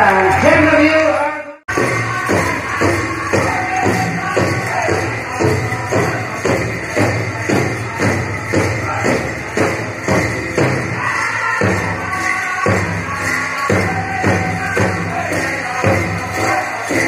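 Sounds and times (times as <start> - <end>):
men singing in chorus: 1.7 - 9.8, 10.8 - 17.0.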